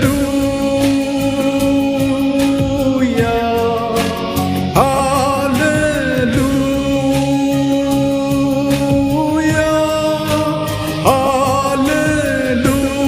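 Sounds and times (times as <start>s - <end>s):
backing instruments: 0.0s - 13.0s
steady drum beat: 0.0s - 13.0s.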